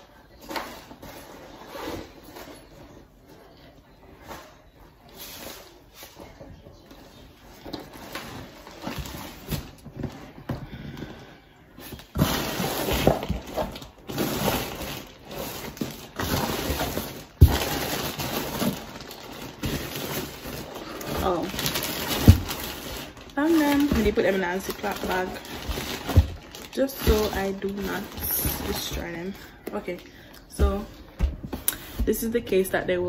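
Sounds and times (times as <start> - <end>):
plastic bags rustling: 4.4 - 32.8.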